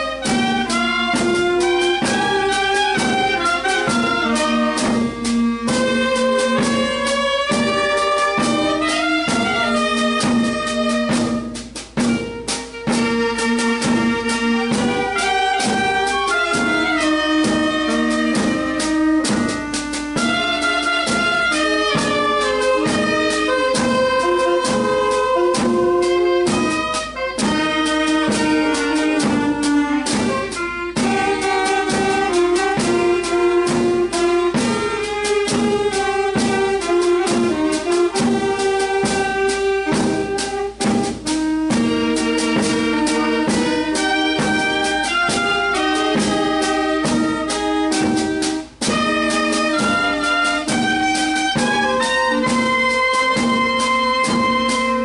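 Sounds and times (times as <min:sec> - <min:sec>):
clarinets and saxophone melody: 0:00.0 - 0:55.0
steady drum beat: 0:00.0 - 0:55.0.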